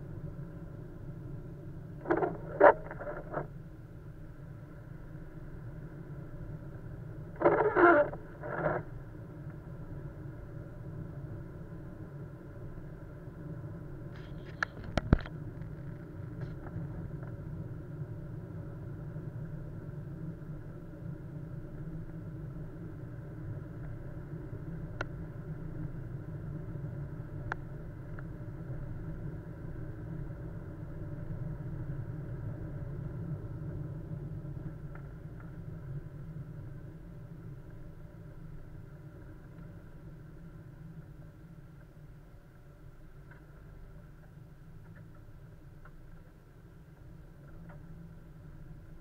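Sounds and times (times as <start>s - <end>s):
car engine and road rumble: 0.0s - 49.0s.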